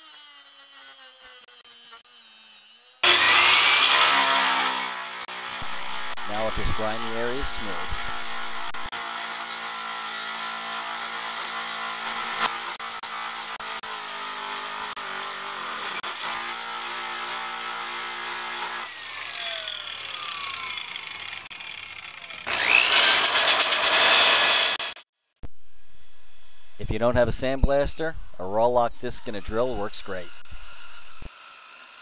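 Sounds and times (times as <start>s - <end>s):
angle grinder grinding metal: 0.0s - 25.0s, 28.4s - 32.0s
drill abrasive disc scouring metal: 0.0s - 25.0s, 28.4s - 32.0s.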